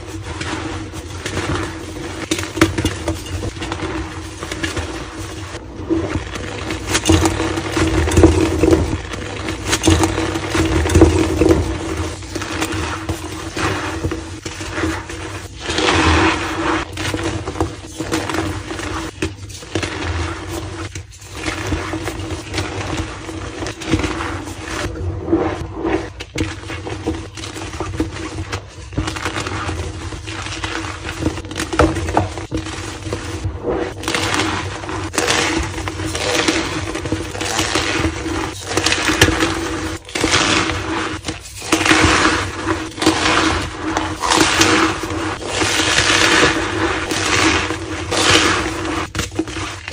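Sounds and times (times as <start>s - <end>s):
chalk blocks crunching: 0.0s - 49.9s.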